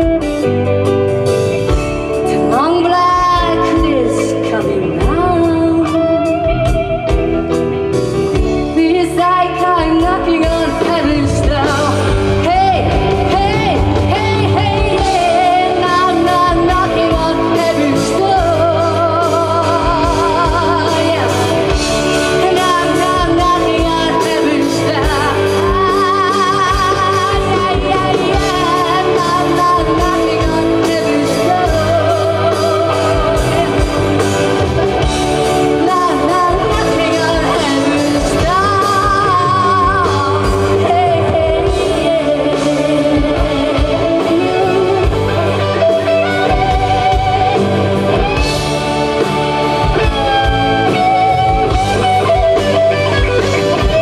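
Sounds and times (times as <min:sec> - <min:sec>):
live rock band playing: 0:00.0 - 0:54.0
woman singing with vibrato: 0:02.1 - 0:06.8, 0:08.5 - 0:54.0.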